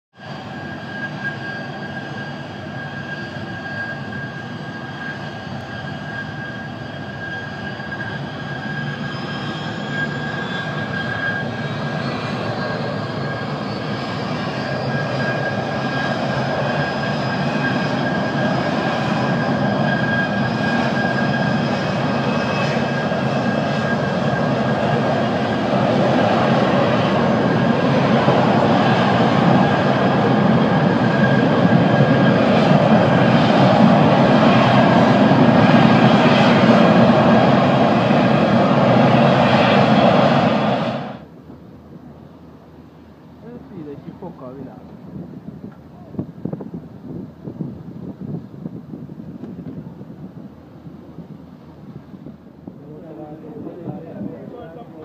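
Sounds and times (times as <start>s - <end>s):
jet engine high whine: 0.1s - 55.0s.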